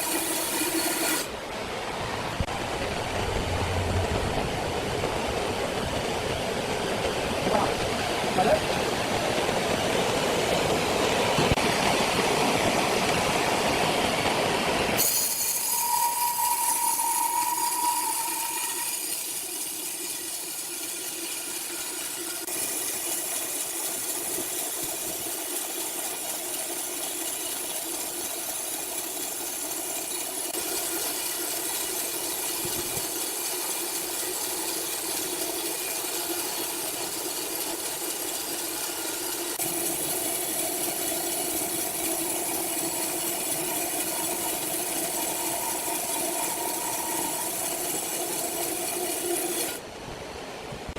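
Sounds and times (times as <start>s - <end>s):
sawmill machinery whining: 0.0s - 1.6s, 9.6s - 49.9s.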